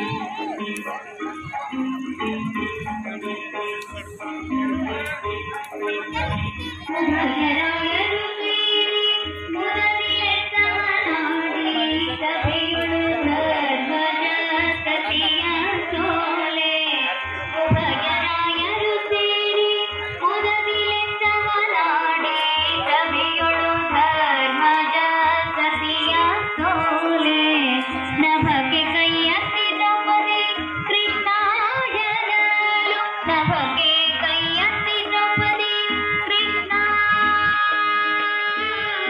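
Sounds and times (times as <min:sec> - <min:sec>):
instrumental accompaniment: 0:00.0 - 0:39.0.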